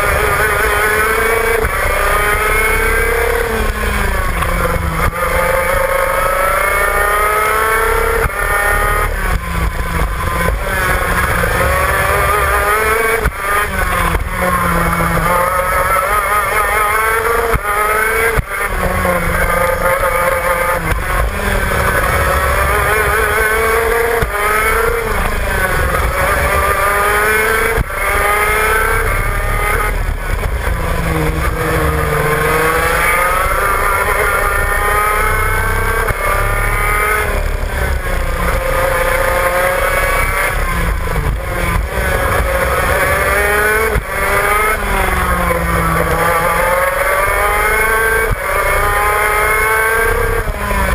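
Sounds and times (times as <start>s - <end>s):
kart engine accelerating: 0.0s - 50.9s.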